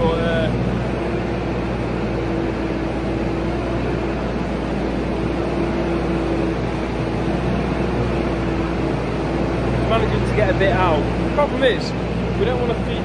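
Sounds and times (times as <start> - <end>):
feeder wagon augers whining hum: 0.0 - 13.0
tractor engine running: 0.0 - 13.0.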